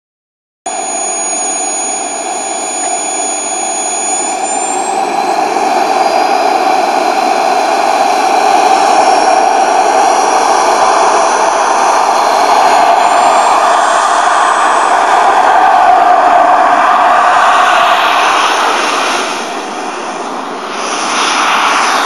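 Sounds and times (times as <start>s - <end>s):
jet turbine whistling whine: 0.7s - 22.0s.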